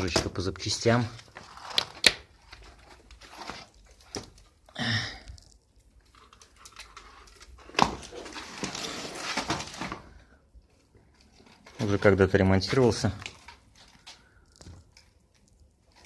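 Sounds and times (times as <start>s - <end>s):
rustling and handling noises: 0.0s - 16.0s.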